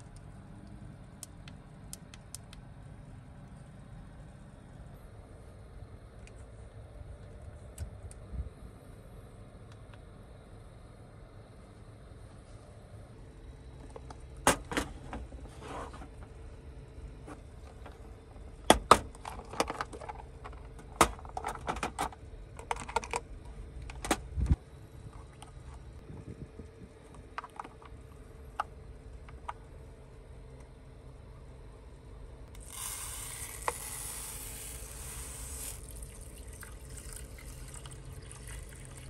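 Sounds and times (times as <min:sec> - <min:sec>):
steady low rumble: 0:00.0 - 0:33.4.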